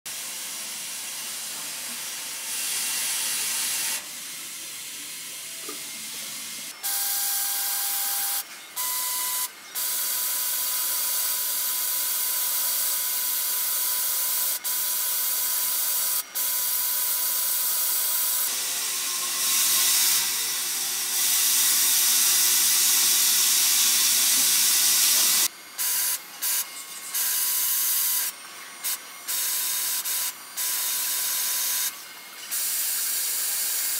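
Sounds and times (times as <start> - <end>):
hiss of coolant spray and cutting: 0.1 - 6.7, 12.6 - 33.9.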